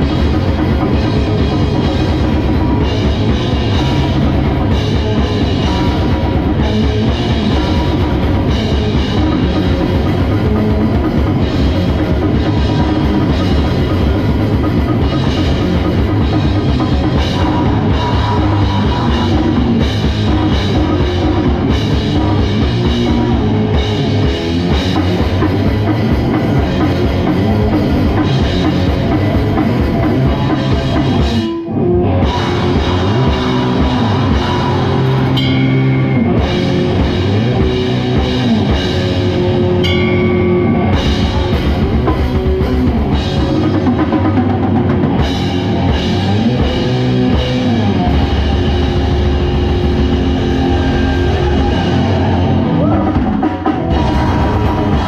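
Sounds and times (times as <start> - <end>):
band playing grindcore: 0.0 - 55.0.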